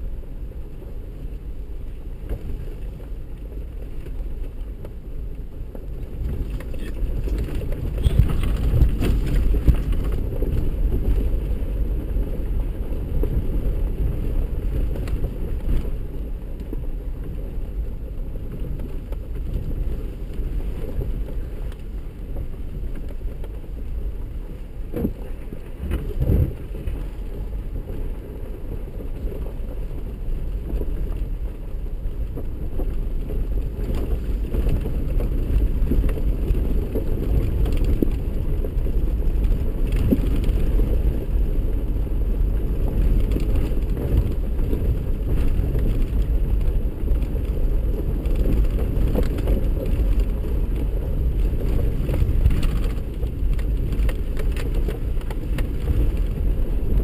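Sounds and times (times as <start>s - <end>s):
vehicle engine rumble: 0.0s - 57.0s
tyres on gravel: 0.5s - 57.0s
knocks and jolts over rocks: 2.0s - 57.0s.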